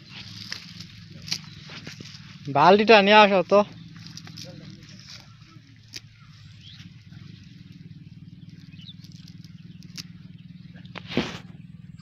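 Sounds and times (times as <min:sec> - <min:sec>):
low pulsing drone: 0:00.0 - 0:12.0.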